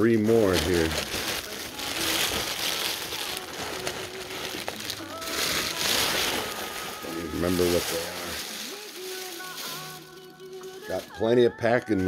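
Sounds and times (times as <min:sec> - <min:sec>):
plastic packing crinkling: 0:00.0 - 0:12.0.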